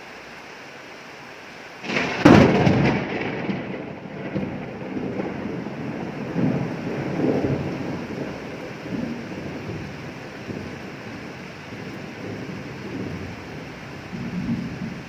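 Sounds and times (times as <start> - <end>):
steady rain: 0.0 - 15.0
thunderclap and rumbling thunder: 1.8 - 15.0.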